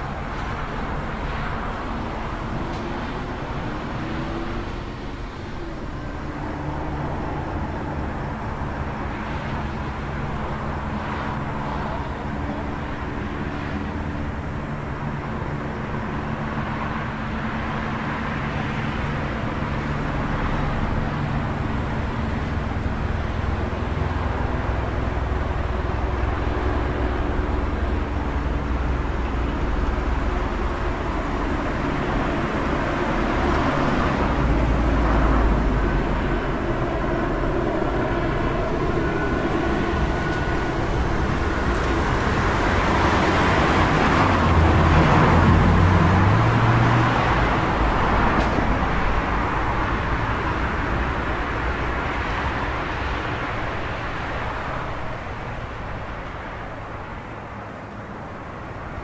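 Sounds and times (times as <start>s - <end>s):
car engines and road noise: 0.0s - 59.0s
low engine hum: 0.0s - 59.0s.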